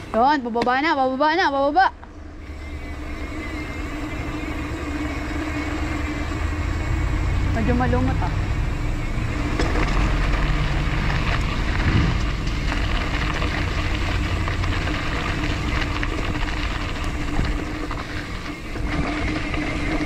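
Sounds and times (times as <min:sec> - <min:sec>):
road and tyre noise: 0:00.0 - 0:20.0
wind rumble on microphone: 0:03.2 - 0:20.0.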